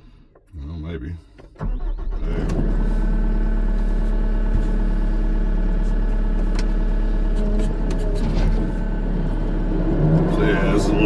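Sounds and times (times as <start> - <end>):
diesel engine running steadily: 1.7 - 11.0.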